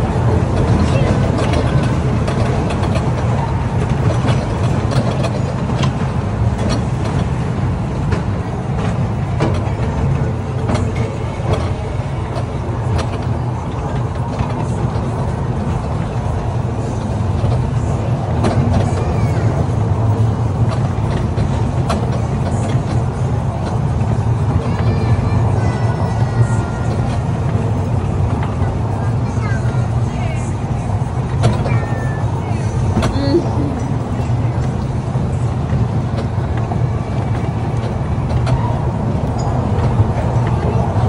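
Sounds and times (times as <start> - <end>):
carriages clicking and rattling: 0.0 - 41.0
small train rumbling: 0.0 - 41.0.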